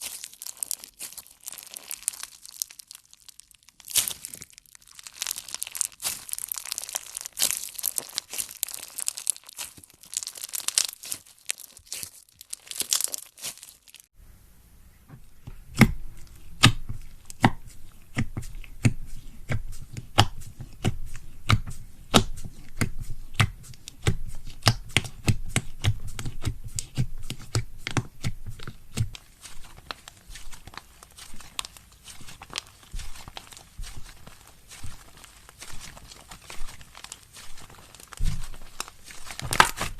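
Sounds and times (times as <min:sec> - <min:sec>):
slime crackling: 0:00.0 - 0:14.1, 0:15.7 - 0:39.9.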